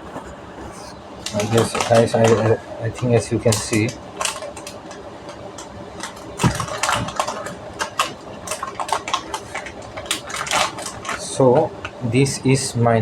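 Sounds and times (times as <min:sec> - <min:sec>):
server cooling fans whirring: 0:00.0 - 0:13.0
hard disk packaging clicks and rustles: 0:01.2 - 0:12.0.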